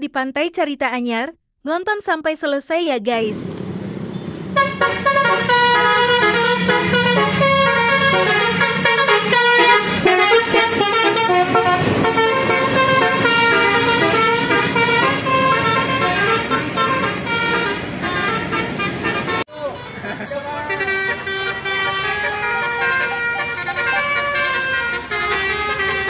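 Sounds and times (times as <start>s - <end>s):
multi-tone musical bus horn: 4.1s - 26.0s.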